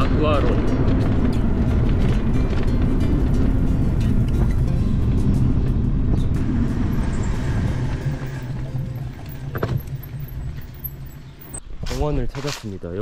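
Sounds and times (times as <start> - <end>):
wind rushing over microphone: 0.0 - 11.9.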